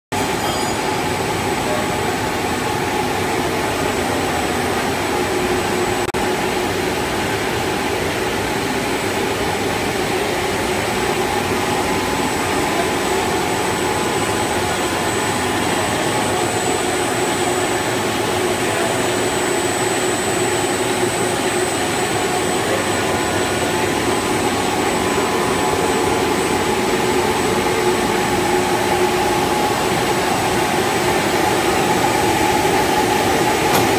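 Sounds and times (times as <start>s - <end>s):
loud machine drone: 0.2s - 33.9s
steady whining tones: 0.2s - 33.9s.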